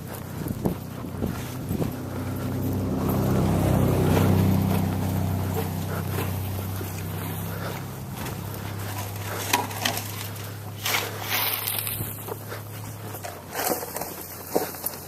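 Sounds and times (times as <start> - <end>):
footsteps crunching in snow: 0.0 - 15.0
low motor hum: 0.0 - 15.0.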